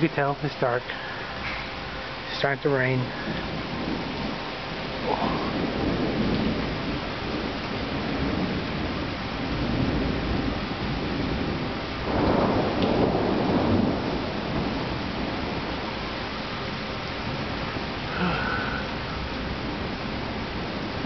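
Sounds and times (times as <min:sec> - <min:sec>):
steady rain: 0:00.0 - 0:21.0
thunder rolling: 0:01.4 - 0:21.0.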